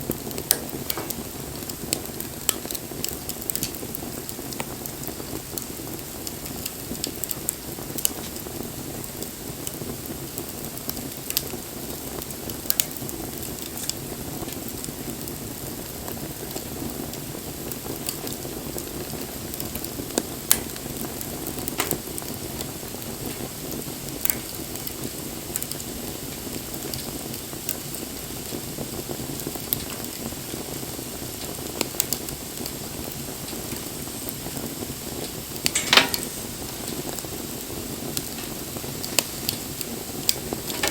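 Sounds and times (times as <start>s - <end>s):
campfire flames rushing: 0.0s - 40.9s
fire crackles and pops: 0.0s - 40.9s.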